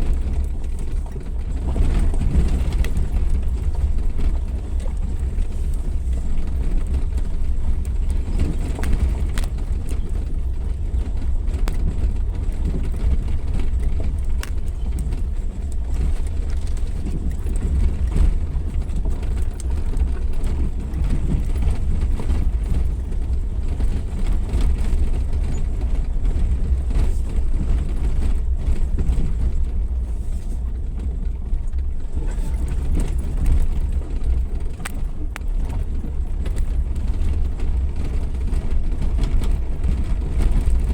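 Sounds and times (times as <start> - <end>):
vehicle engine rumble: 0.0 - 40.9.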